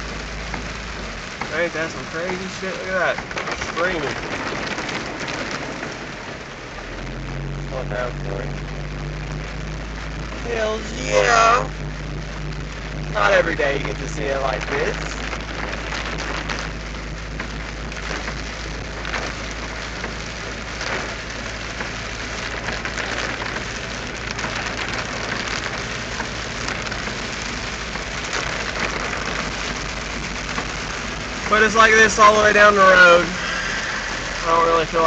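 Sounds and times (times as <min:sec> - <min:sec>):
heavy rain on car roof: 0:00.0 - 0:35.0.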